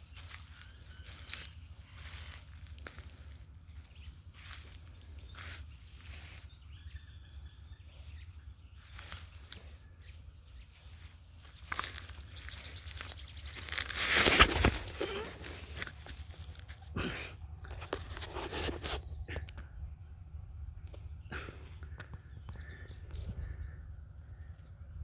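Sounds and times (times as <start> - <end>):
rustling in dry vegetation: 0.0 - 7.4, 8.1 - 25.0.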